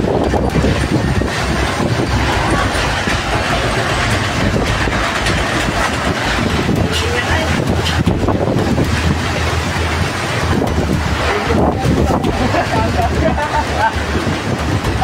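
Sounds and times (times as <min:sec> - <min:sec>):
storm wind gusting on microphone: 0:00.0 - 0:15.0.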